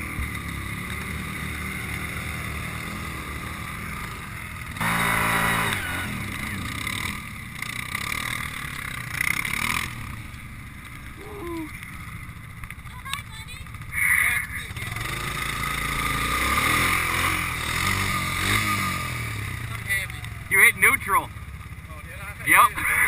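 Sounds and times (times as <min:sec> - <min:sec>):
atv engines revving: 0:00.0 - 0:23.0.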